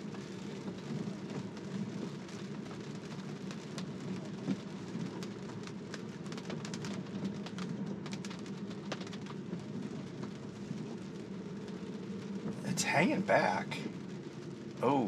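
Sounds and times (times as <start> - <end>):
rain drops hitting glass and roof: 0.0 - 15.0.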